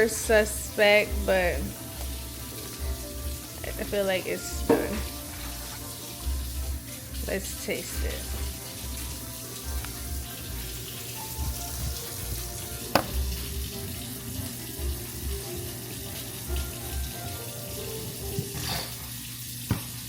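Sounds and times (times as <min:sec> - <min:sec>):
steady water-like hiss: 0:00.0 - 0:20.0.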